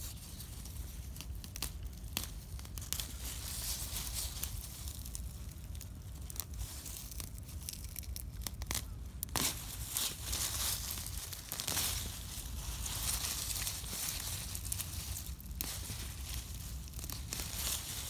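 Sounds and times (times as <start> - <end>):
leaves rustling and crackling: 0.0 - 18.0
plant stems tearing: 0.0 - 18.0.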